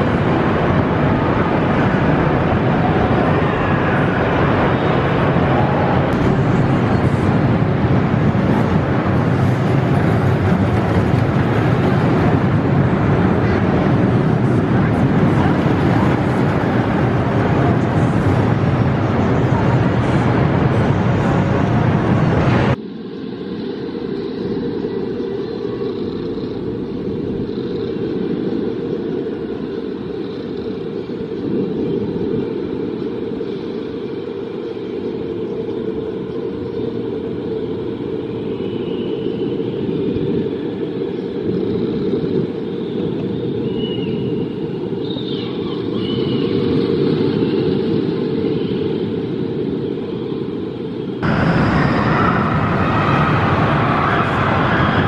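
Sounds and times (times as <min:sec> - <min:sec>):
indoor amusement park din: 0:00.0 - 0:49.5, 0:51.2 - 0:55.0
roller coaster rumbling on track: 0:00.0 - 0:55.0.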